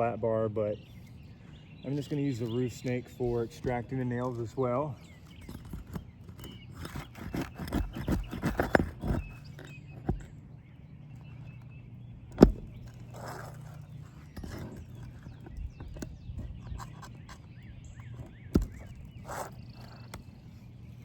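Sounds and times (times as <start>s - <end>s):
tool clicking and scraping shingles: 1.9s - 21.0s.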